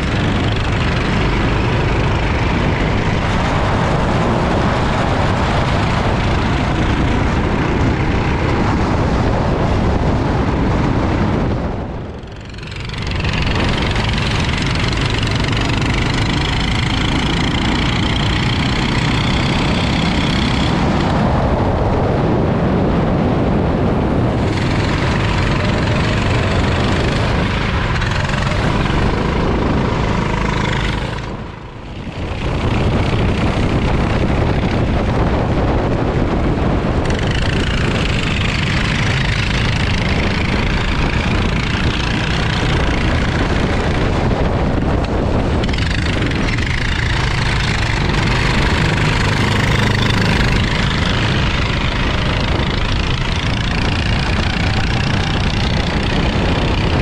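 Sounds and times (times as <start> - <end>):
go-kart engine running hard: 0.0 - 57.0
wind rush: 0.0 - 57.0.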